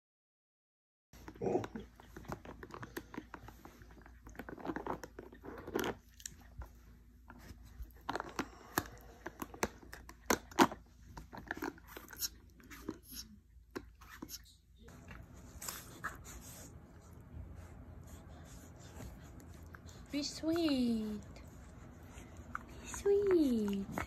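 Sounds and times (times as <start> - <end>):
dog chewing rubber toy: 1.2 - 16.9, 18.2 - 24.0.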